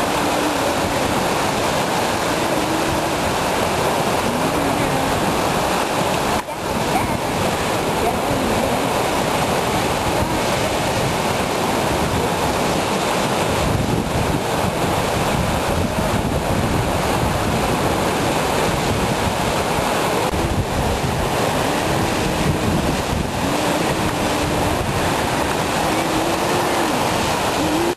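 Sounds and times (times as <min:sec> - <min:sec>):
heavy sea surf breaking on rocks: 0:00.0 - 0:27.9.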